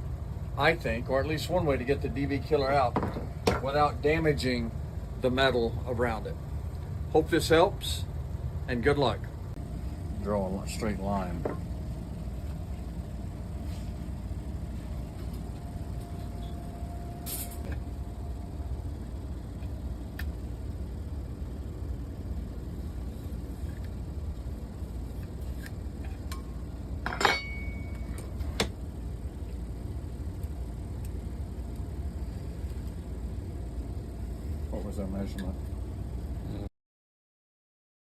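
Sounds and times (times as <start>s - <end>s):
steady low hum: 0.0s - 36.7s.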